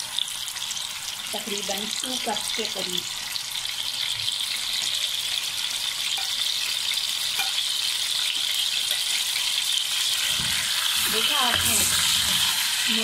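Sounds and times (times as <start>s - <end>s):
hot oil sizzling in a pot: 0.0s - 13.0s.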